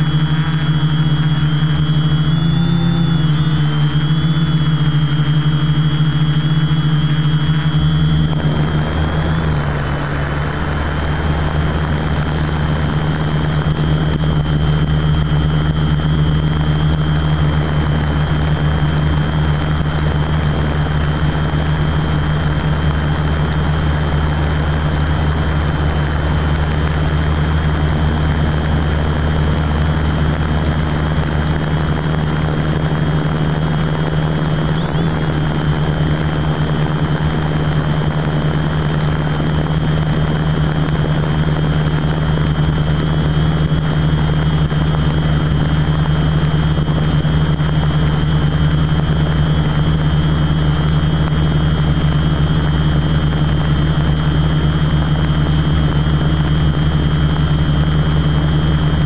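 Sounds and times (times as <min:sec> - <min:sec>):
quadcopter propellers humming: 0:00.0 - 0:59.0.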